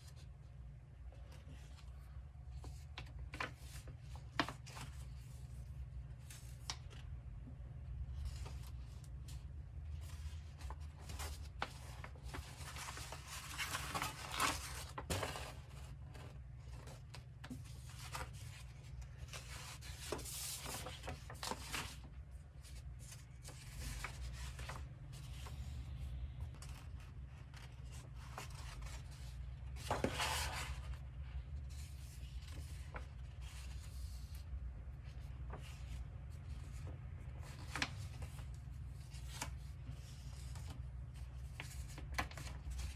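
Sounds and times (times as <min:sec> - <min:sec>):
paper pages rustling: 0:01.1 - 0:42.9.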